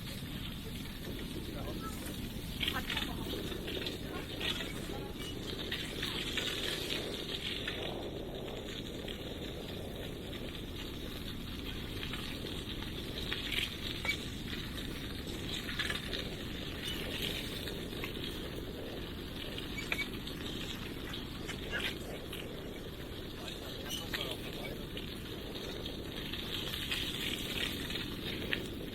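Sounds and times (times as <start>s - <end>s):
bicycle tyre and wind noise: 0.0s - 28.9s
small clicks and ticks: 0.0s - 28.9s.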